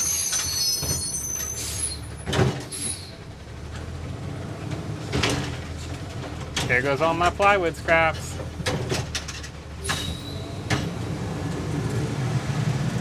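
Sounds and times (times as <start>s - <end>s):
garbage truck rumbling: 0.0s - 13.0s.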